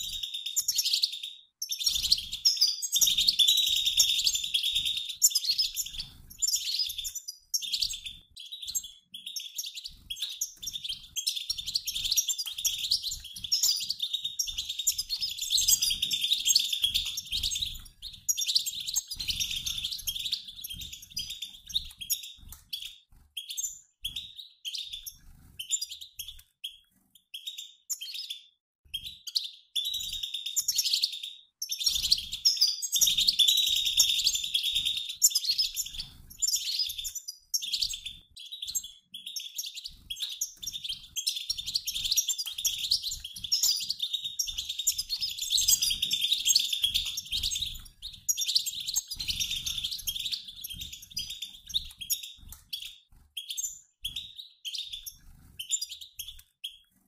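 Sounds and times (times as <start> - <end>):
goldfinches twittering: 0.0 - 26.4, 29.3 - 56.8.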